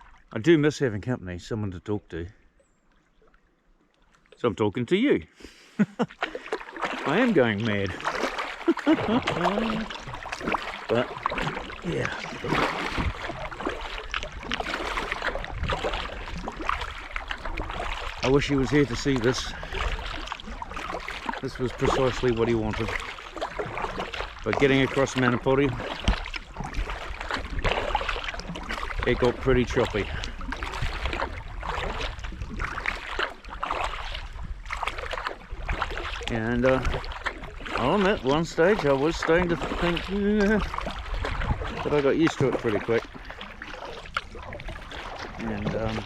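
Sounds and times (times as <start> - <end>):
small splashes and drips: 0.0 - 0.4, 2.3 - 4.4, 5.9 - 46.0
water lapping against kayak hull: 0.0 - 46.0
wind rumbling on microphone: 8.9 - 46.0.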